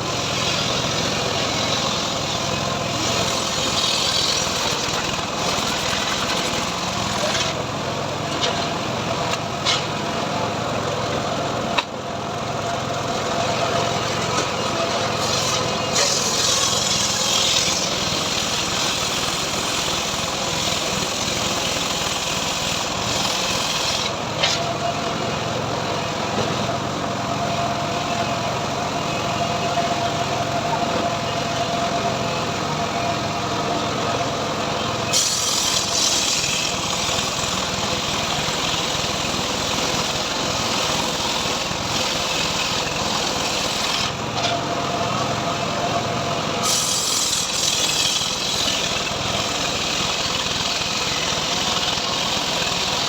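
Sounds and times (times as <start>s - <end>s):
sawmill sawing wood: 0.0s - 10.2s, 13.0s - 25.4s, 26.0s - 53.0s.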